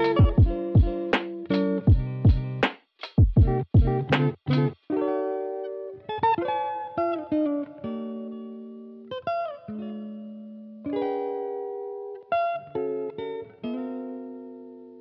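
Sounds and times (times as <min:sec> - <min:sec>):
struck notes and chords ringing: 0:00.0 - 0:14.6.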